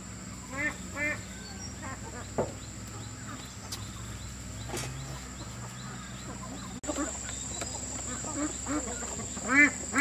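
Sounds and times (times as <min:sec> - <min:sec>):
poultry calls: 0:00.3 - 0:10.0
small bird chirping: 0:00.3 - 0:10.0.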